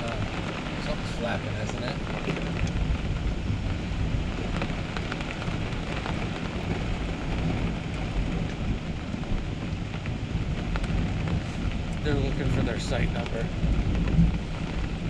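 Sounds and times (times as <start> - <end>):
raindrop taps: 0.0 - 15.0
wind gusting low rumble: 0.0 - 15.0.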